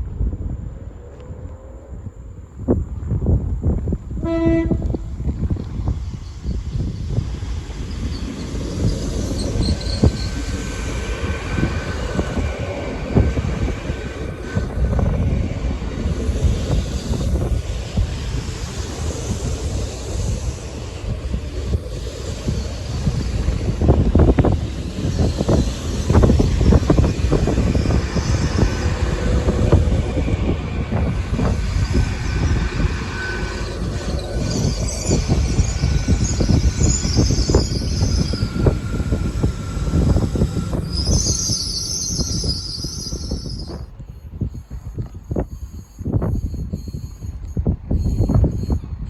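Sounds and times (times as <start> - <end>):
train wheels rumbling on rails: 0.0 - 49.0
faint high whine: 4.2 - 49.0.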